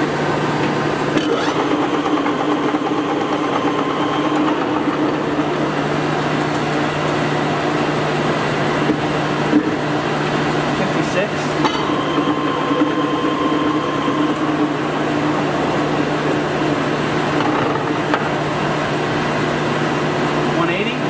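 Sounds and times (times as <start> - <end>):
lathe running hum: 0.0 - 21.0.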